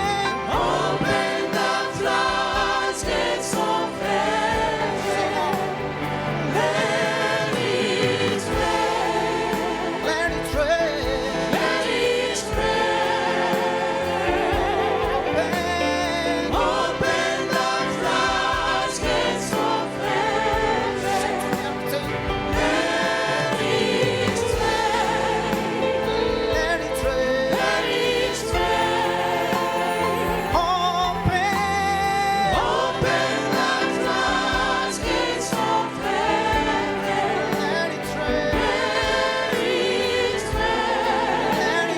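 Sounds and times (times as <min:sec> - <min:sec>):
choir singing gospel song: 0:00.0 - 0:41.9.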